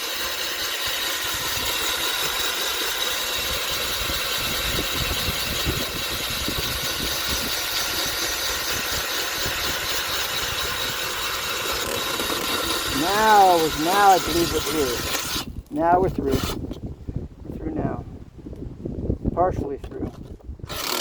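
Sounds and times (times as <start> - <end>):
drill grinding through tile: 0.0 - 16.8, 20.7 - 21.0.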